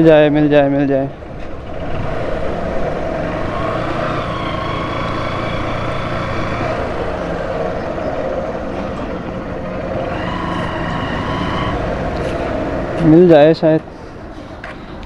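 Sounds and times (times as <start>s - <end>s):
motorcycle running: 0.0s - 14.3s.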